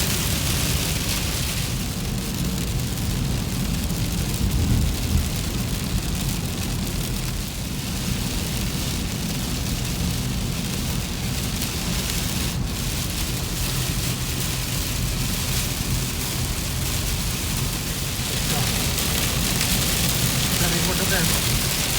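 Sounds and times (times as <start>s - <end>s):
car road rumble: 0.0s - 21.9s
rain on car: 0.0s - 21.9s
tyres hissing on wet road: 0.0s - 21.9s.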